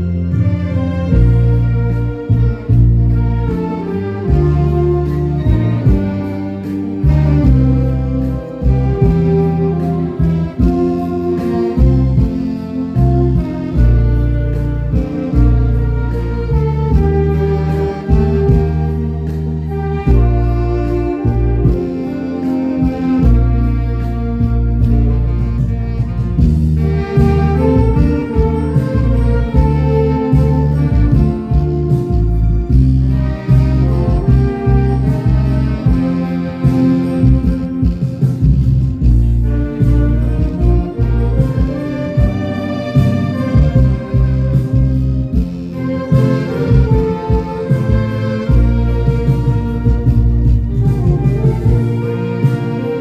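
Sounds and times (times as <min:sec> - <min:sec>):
deep bass line: 0:00.0 - 0:53.0
saxophone ensemble playing: 0:00.0 - 0:53.0.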